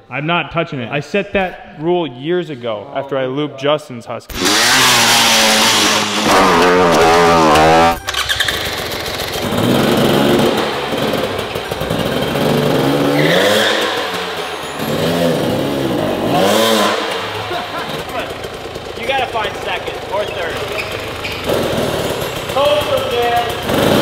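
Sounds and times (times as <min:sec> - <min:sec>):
dirt bike engine revving: 0:04.3 - 0:24.0.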